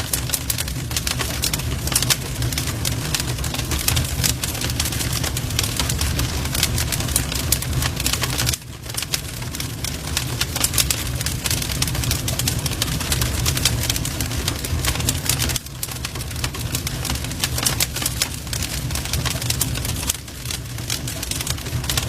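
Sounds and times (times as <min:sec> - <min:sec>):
low rumble of flames: 0:00.0 - 0:22.0
wood fire pops and snaps: 0:00.0 - 0:22.0.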